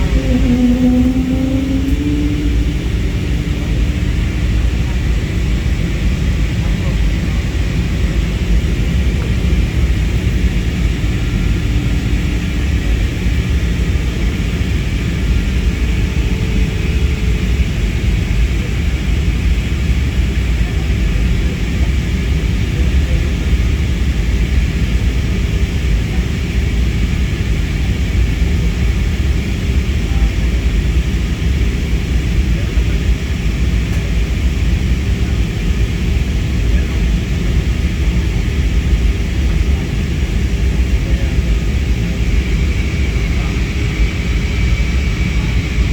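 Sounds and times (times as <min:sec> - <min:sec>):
airliner engines rumbling: 0:00.0 - 0:45.9.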